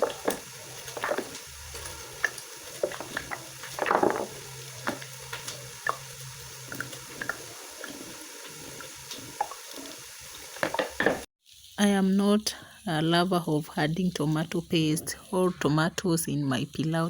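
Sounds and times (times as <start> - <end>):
food sizzling in a pot: 0.0 - 17.0.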